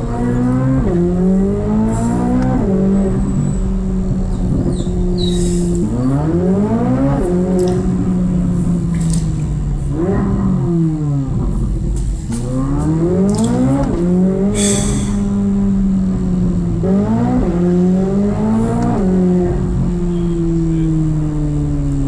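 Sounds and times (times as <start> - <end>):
sharp exhaust crack: 0.0 - 22.0
sports car engine accelerating: 0.0 - 22.0.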